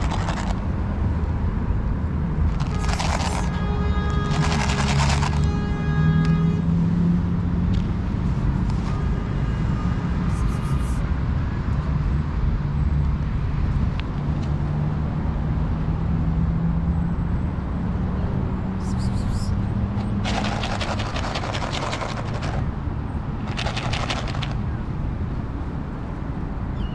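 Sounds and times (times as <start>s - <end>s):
engine hum: 0.0s - 8.9s, 10.1s - 26.7s
traffic rumble: 0.0s - 26.9s.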